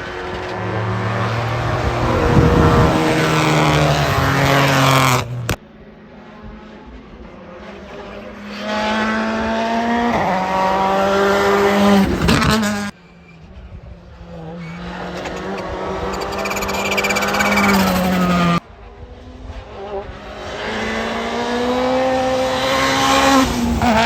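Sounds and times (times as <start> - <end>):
race car engines passing at high revs: 0.0 - 24.0.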